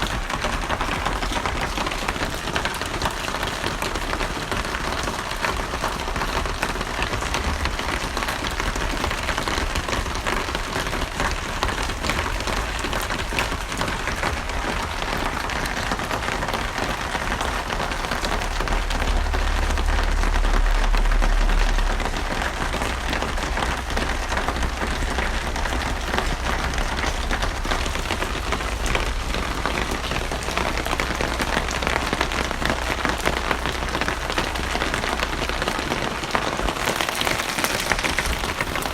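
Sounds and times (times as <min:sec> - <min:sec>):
heavy rain pattering: 0:00.0 - 0:38.9
low rumble: 0:05.8 - 0:38.9.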